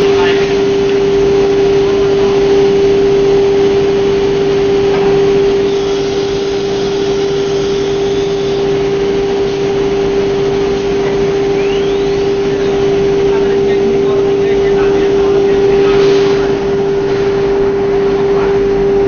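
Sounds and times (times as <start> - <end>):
faint rising whine: 0.0 - 19.0
machine drone and hum: 0.0 - 19.0.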